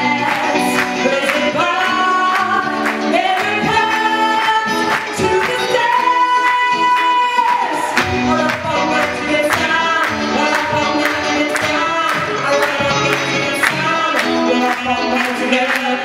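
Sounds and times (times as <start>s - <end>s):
live band playing: 0.0s - 16.0s.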